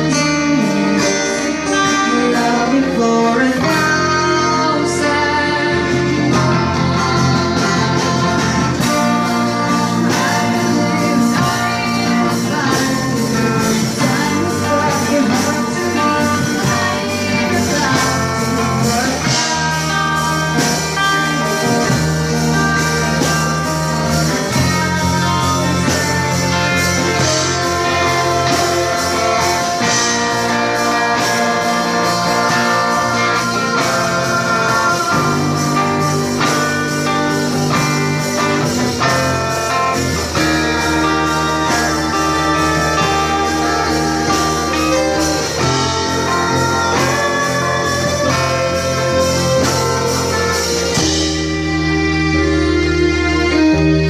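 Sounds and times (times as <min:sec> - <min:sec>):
live band playing slow ballad: 0:00.0 - 0:54.0.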